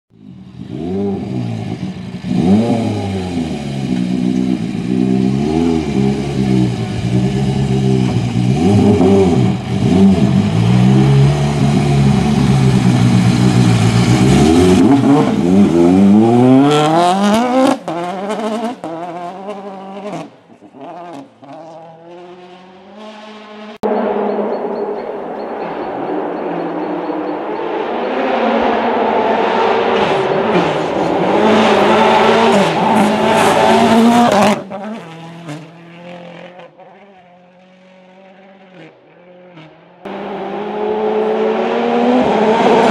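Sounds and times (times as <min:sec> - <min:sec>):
rally car engine revving: 0:00.4 - 0:42.9.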